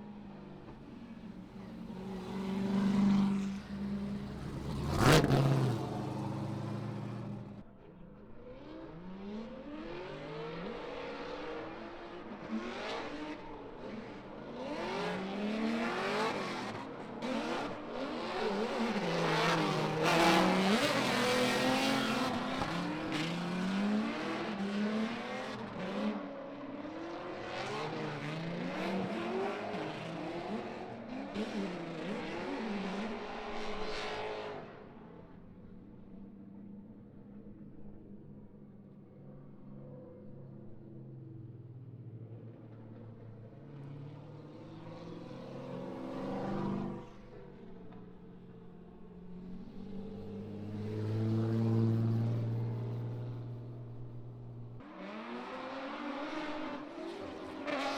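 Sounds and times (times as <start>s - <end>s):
car engines revving: 0.0s - 35.0s, 42.3s - 57.9s.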